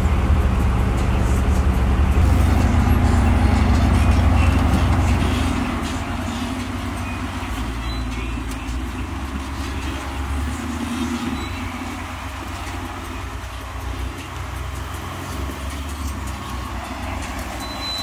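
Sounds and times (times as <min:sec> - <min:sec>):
off-road vehicle engine at low revs: 0:00.0 - 0:18.0.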